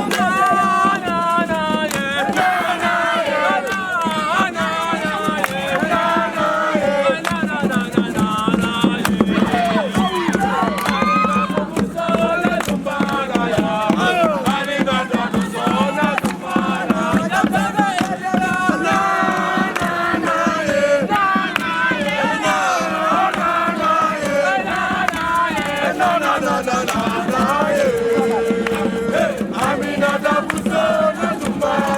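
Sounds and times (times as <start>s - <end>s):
young voices chanting and singing: 0.0s - 31.9s.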